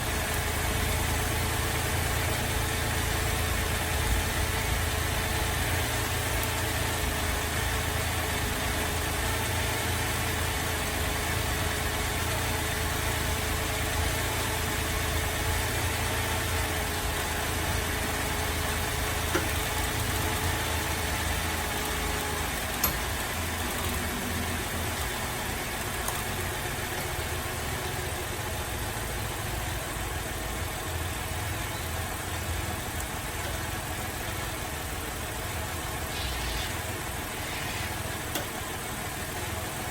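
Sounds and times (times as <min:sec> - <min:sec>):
car engine idling rough: 0:00.0 - 0:39.9.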